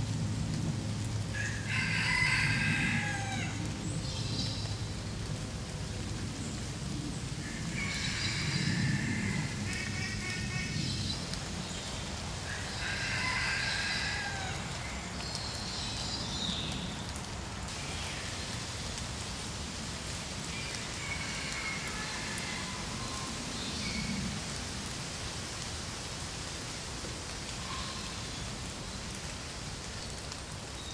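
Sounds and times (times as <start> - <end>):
rain falling on water: 0.0 - 30.9.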